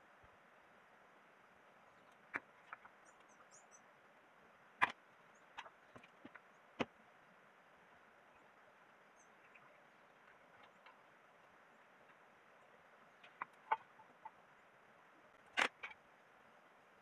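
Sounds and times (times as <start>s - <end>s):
faint bird chirps: 1.6s - 6.8s, 7.9s - 17.0s.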